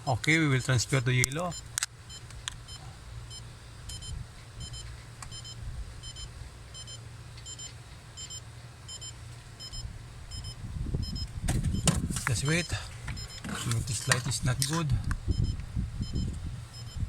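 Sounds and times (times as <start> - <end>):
low steady hum: 0.0 - 17.0
car warning chime double beeps: 0.9 - 17.0.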